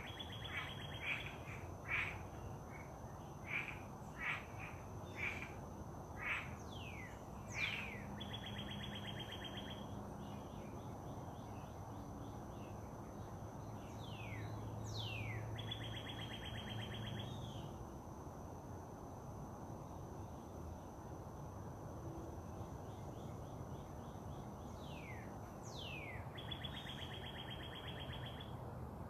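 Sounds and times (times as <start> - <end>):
songbird singing: 0.0 - 17.8, 22.4 - 28.6.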